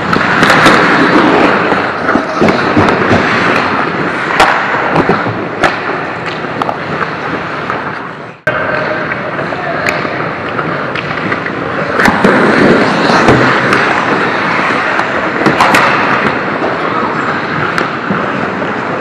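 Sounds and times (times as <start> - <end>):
hockey sticks and puck clacking: 0.0 - 19.0
skates scraping on ice: 0.0 - 19.0.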